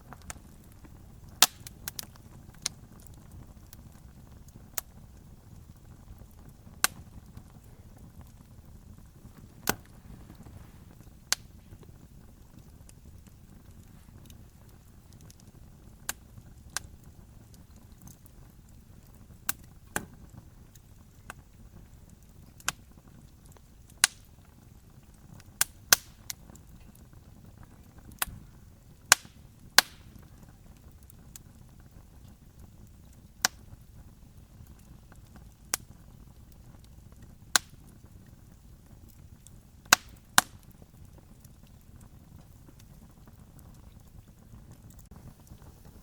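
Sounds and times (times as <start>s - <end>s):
low steady rumble: 0.0s - 39.9s
campfire crackling: 0.0s - 46.0s
sharp pops from fire: 0.0s - 46.0s.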